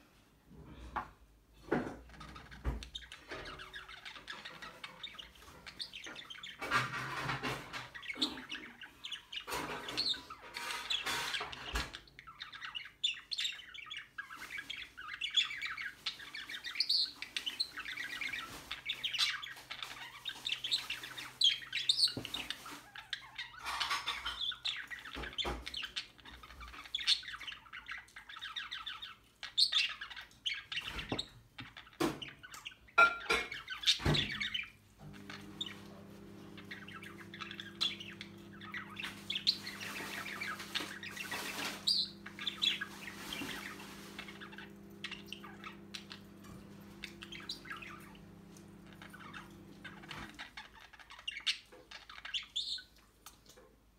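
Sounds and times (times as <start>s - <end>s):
budgerigars chattering: 2.1s - 52.9s.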